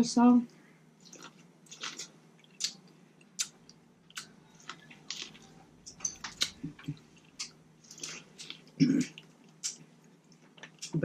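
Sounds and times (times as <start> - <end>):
close-miked chewing clicks and smacks: 1.0 - 11.0.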